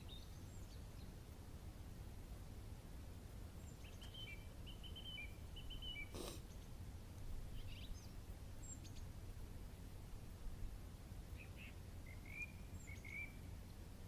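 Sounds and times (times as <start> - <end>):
songbird chirping: 0.0 - 1.5, 3.5 - 13.9
low steady rumble: 0.0 - 14.0.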